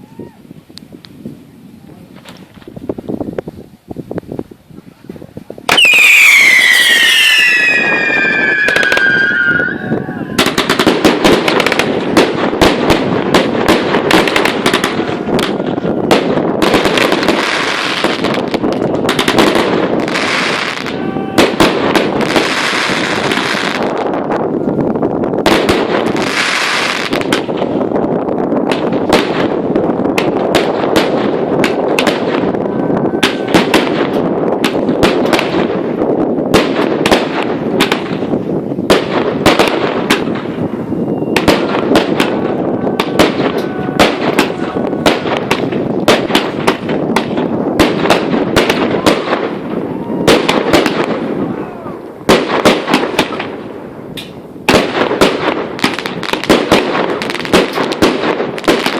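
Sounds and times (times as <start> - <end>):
fireworks crackle: 0.2 - 58.9
fireworks shells exploding: 5.6 - 58.9.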